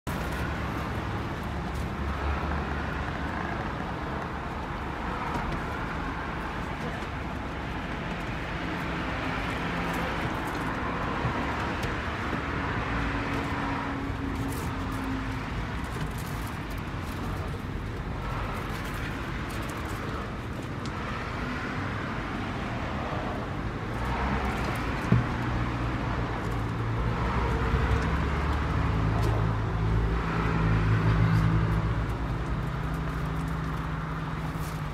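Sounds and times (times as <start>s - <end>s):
outdoor background noise: 0.0s - 34.9s.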